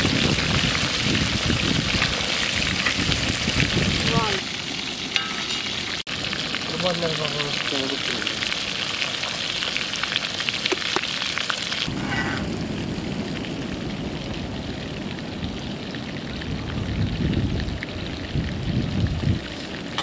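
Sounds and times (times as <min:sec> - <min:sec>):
fish sizzling in hot oil: 0:00.0 - 0:20.0
wind: 0:00.0 - 0:20.0.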